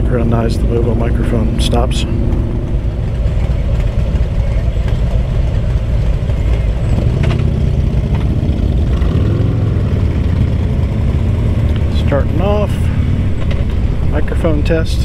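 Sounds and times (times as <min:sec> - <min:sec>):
motorcycle engines idling: 0:00.0 - 0:15.0.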